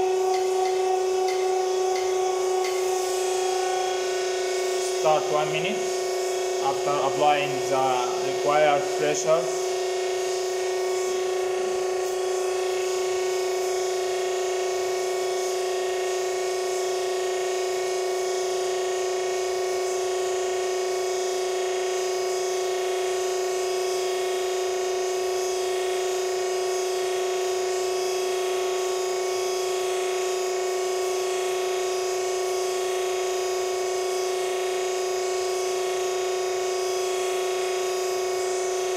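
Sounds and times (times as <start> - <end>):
hydraulic power unit humming: 0.0 - 23.6, 27.0 - 38.9.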